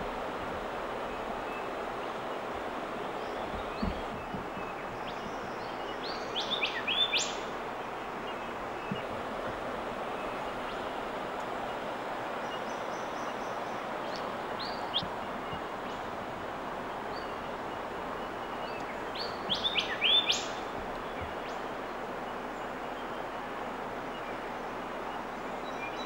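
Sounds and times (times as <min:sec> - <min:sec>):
steady background hiss: 0:00.0 - 0:26.0
small birds chirping: 0:01.0 - 0:26.0.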